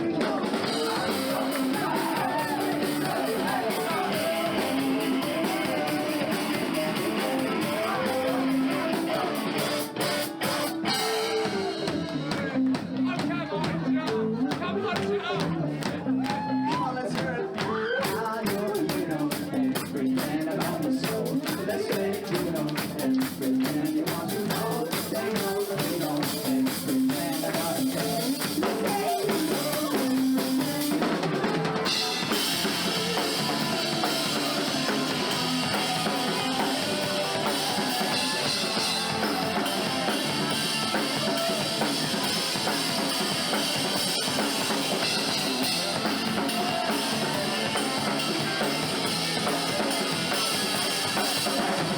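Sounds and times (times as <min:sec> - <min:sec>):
drum kit: 0:00.0 - 0:51.9
rock band playing: 0:00.0 - 0:51.9.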